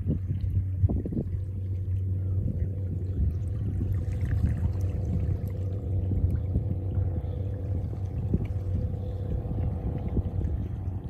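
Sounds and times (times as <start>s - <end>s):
boat engine humming: 0.0s - 11.0s
water lapping against rocks: 0.0s - 11.0s.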